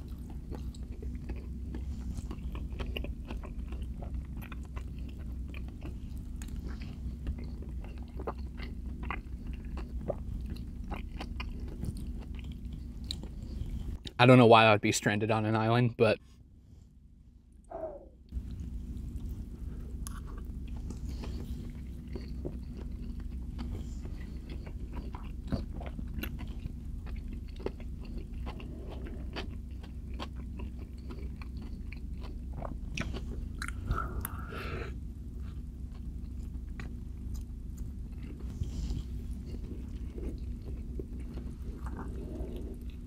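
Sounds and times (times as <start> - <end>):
person chewing soft food: 0.0 - 14.2, 16.4 - 43.0
steady low hum: 0.0 - 43.0.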